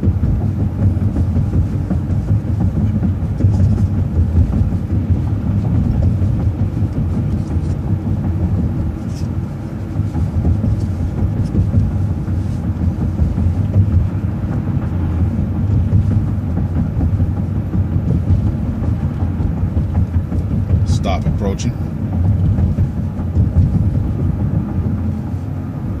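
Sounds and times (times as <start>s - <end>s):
bus engine and road rumble: 0.0s - 26.0s
faint clicks and rattles: 0.0s - 26.0s.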